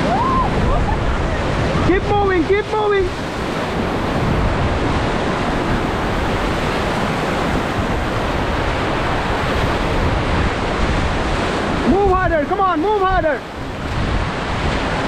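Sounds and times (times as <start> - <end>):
rushing white water: 0.0 - 15.0
wind buffeting microphone: 0.0 - 15.0.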